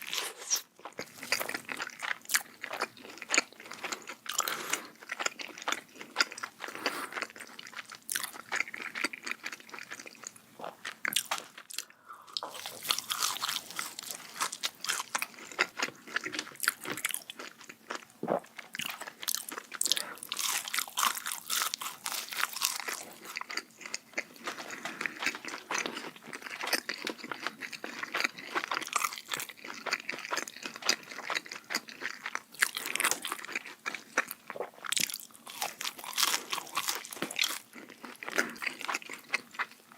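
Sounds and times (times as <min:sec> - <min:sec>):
person eating crunchy food: 0:00.0 - 0:39.9.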